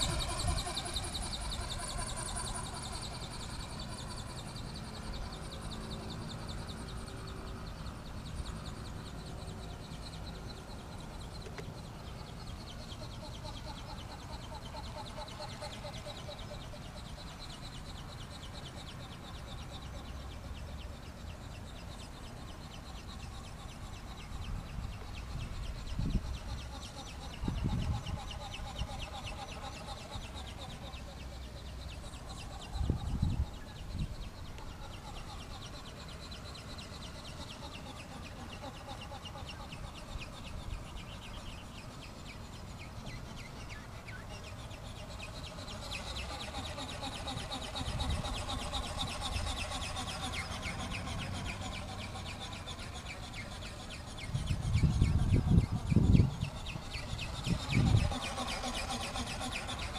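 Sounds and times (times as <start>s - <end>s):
model airplane motor buzzing: 0.0s - 59.9s.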